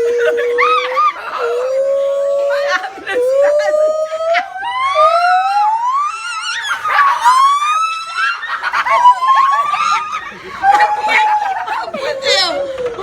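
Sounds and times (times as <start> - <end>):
rising whooping hoots: 0.0 - 13.0.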